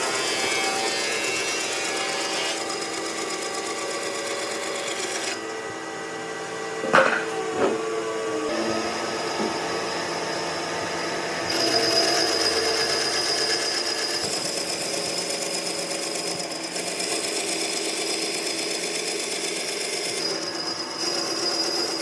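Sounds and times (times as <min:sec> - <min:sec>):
power tool whining on wood: 0:00.0 - 0:22.0.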